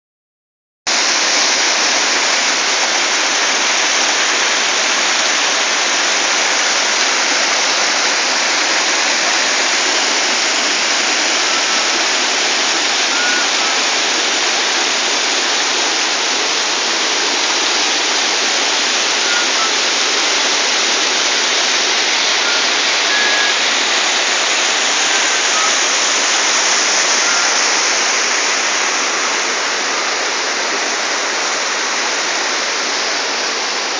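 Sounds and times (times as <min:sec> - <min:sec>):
water rushing over rocks: 0:00.9 - 0:33.9.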